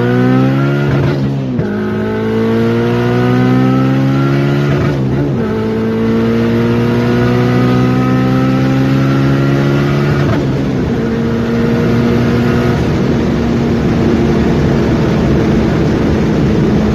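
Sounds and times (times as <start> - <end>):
turbocharged car engine revving: 0.0 - 16.9.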